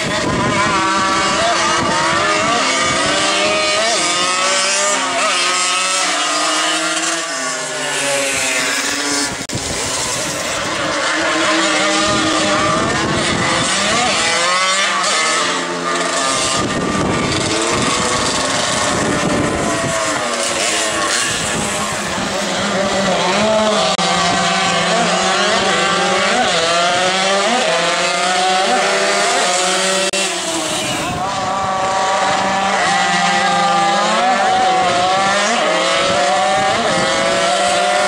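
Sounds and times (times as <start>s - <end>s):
moped engines revving: 0.0s - 38.0s.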